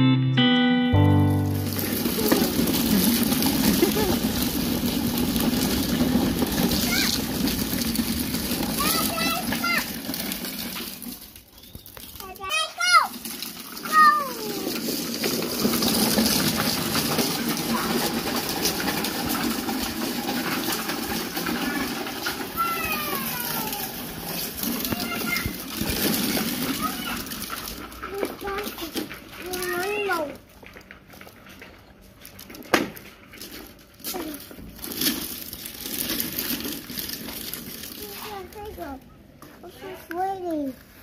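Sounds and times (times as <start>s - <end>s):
plastic wheels rolling on concrete: 1.0s - 41.0s
small clicks and rattles: 1.5s - 41.0s
plastic toy car clack: 1.7s - 38.8s.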